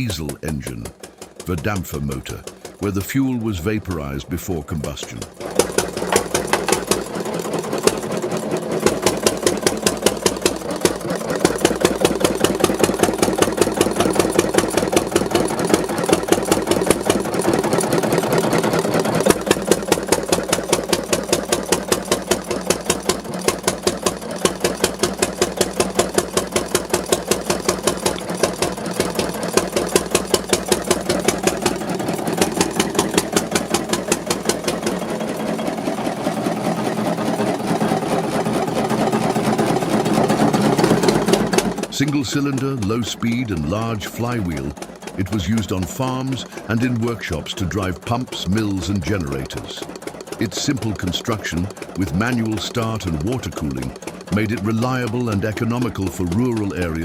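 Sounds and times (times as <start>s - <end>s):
stationary diesel engine running: 0.0s - 57.0s.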